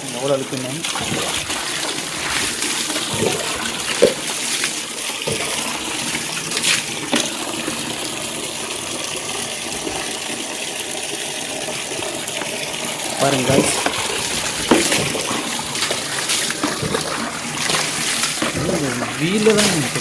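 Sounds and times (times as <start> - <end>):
water pouring and splashing: 0.0 - 20.0.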